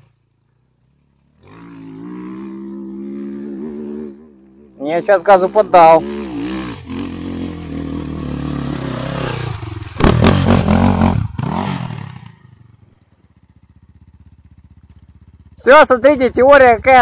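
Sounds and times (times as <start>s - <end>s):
motorcycle engine revving: 1.3s - 17.0s.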